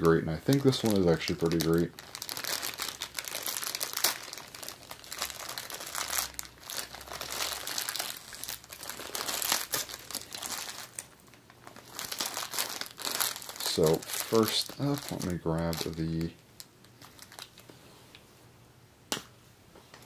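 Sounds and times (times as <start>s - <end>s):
plastic packaging crinkling: 0.0s - 17.7s.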